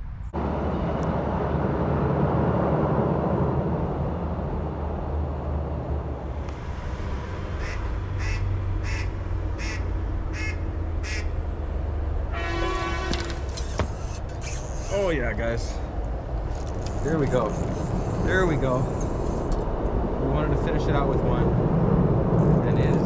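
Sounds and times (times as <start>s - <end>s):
steady rumbling background noise: 0.0s - 23.0s.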